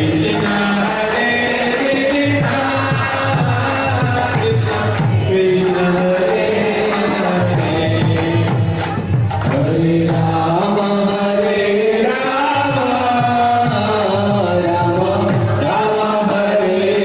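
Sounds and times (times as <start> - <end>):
hand cymbals beat: 0.0 - 17.0.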